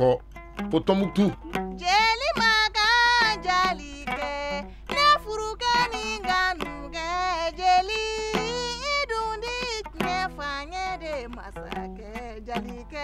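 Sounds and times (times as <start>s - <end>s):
person singing: 0.0s - 13.0s
plucked string instrument: 0.0s - 13.0s.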